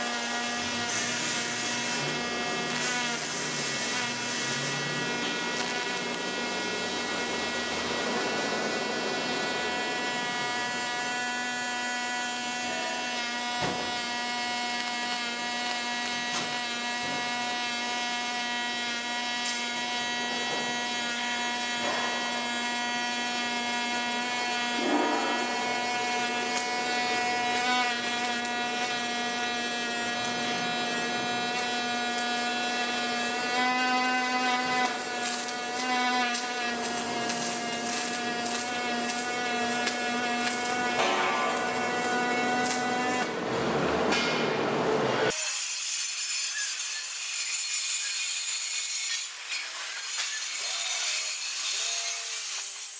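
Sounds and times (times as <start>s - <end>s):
welding arc buzzing hum: 0.0s - 52.9s.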